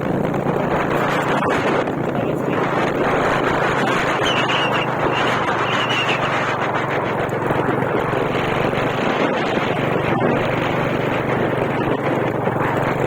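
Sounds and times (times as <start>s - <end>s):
rushing road and wind noise: 0.0s - 13.0s
vehicle engine running: 0.0s - 13.0s.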